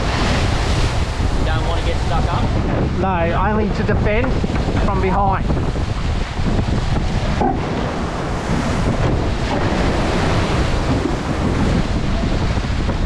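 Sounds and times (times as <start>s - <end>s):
water rushing past hulls: 0.0s - 13.0s
wind buffeting microphone: 0.0s - 13.0s.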